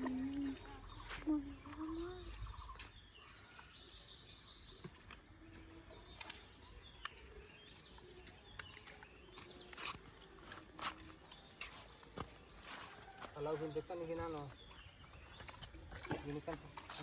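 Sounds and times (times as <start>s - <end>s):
faint bird chirps: 0.0s - 16.6s.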